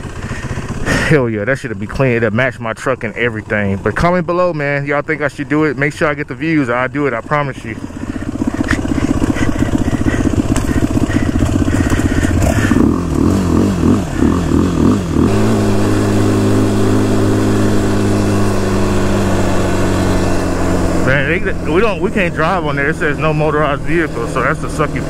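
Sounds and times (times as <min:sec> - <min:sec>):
quad engine running: 0:00.0 - 0:25.0.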